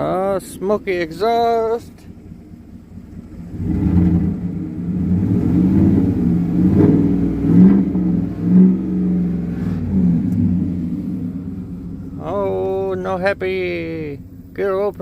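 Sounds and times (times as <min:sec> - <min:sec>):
car engine revving and misfiring: 0:00.0 - 0:15.0.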